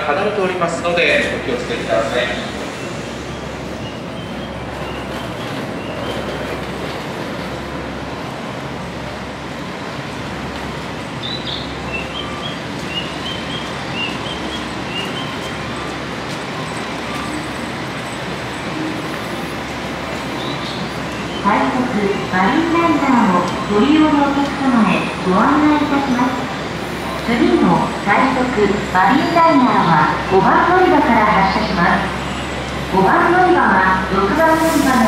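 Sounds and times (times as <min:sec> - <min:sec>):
train rail rumble: 0:00.0 - 0:35.0.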